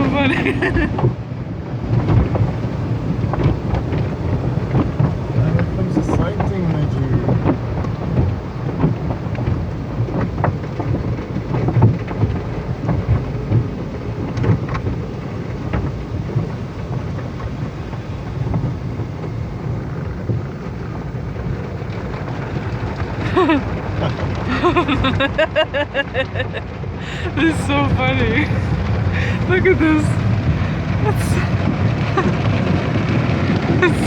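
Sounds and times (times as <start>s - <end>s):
car wash spraying water: 0.0s - 34.0s.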